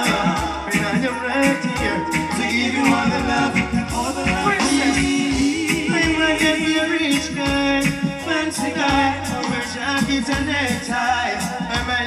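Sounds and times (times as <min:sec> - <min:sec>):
live reggae band: 0:00.0 - 0:12.0
man singing: 0:00.0 - 0:12.0.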